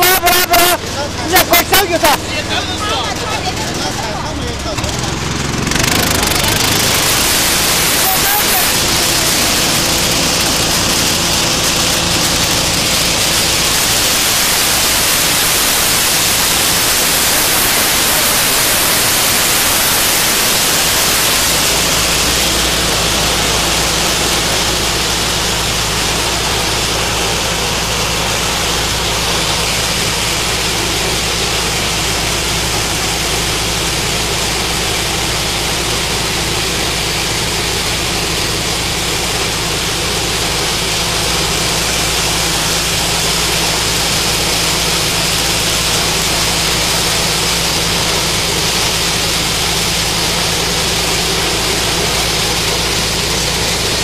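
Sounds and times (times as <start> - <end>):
harvester engine hum: 0.0 - 54.0
loud even hiss: 4.8 - 54.0.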